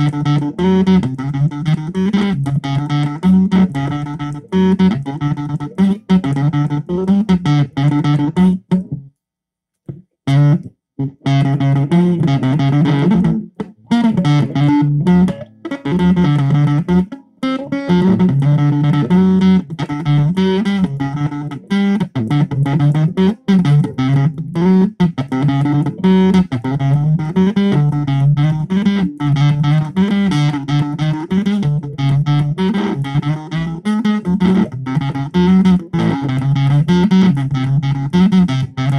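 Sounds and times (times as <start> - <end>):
distorted electric guitar riff: 0.0 - 9.1, 9.9 - 38.9.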